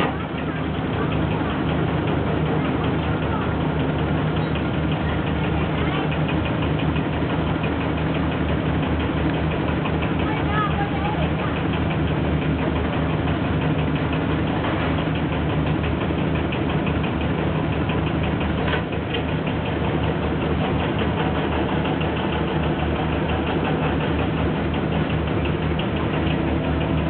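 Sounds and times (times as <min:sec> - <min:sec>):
boat engine knocking: 0:00.0 - 0:27.0.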